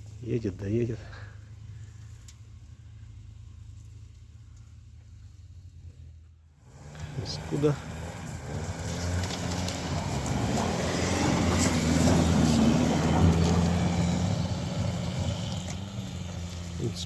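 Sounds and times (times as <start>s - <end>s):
engine working hard uphill: 0.0s - 17.0s
tyre and ground noise: 0.0s - 17.0s.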